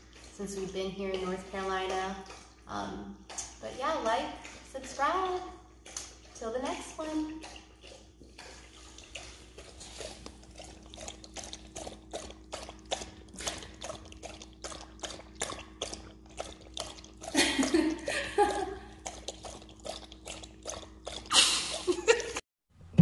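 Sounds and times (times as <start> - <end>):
dog lapping water: 0.0 - 22.4.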